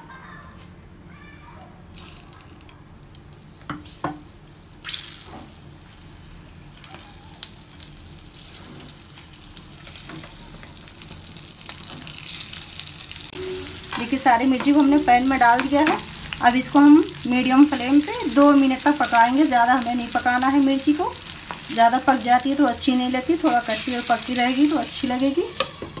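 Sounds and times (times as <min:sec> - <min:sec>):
chillies sizzling in hot oil: 0:02.0 - 0:26.0.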